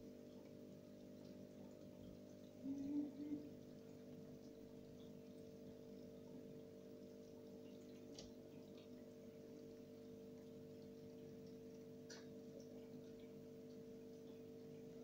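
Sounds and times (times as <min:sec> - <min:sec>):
faint steady pump hum: 0:00.0 - 0:15.0.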